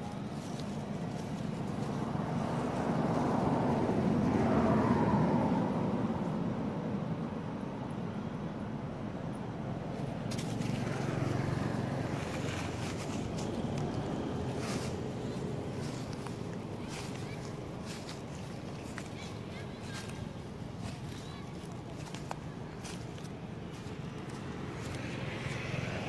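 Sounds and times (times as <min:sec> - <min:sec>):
motor vehicle passing: 0:00.0 - 0:06.5, 0:10.1 - 0:26.0.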